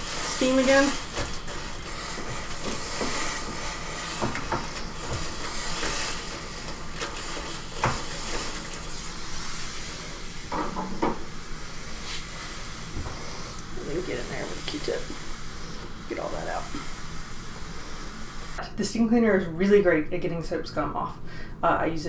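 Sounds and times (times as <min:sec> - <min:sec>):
steamer spraying steam hiss: 0:00.0 - 0:18.6.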